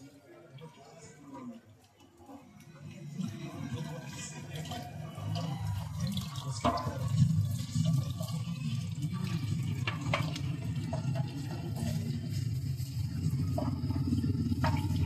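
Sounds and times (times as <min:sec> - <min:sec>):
water running and splashing: 0:02.8 - 0:15.0.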